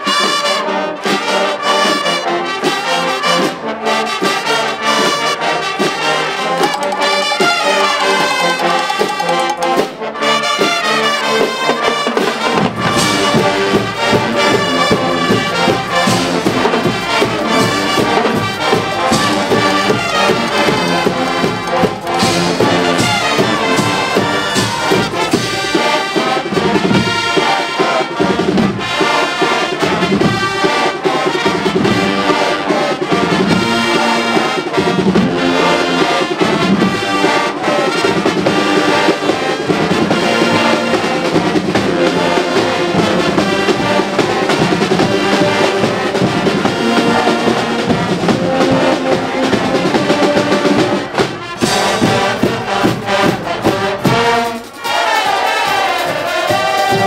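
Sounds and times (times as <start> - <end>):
brass band playing loud music: 0.0 - 57.0.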